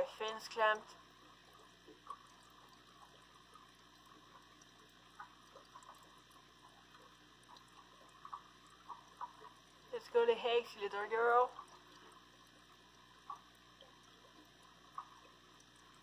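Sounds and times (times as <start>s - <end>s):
water dripping: 0.0s - 16.0s
water trickling: 0.0s - 16.0s.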